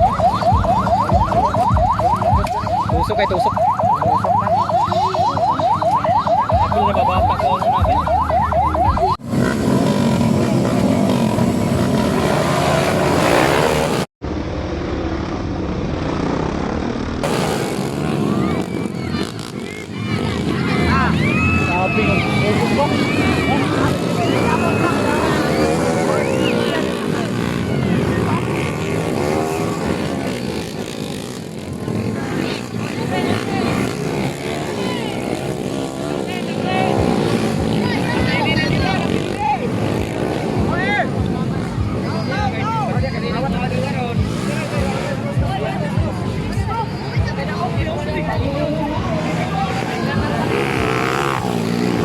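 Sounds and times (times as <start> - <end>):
voices of onlookers: 0.0 - 13.7, 17.2 - 52.0
motorcycle engines revving: 0.0 - 52.0.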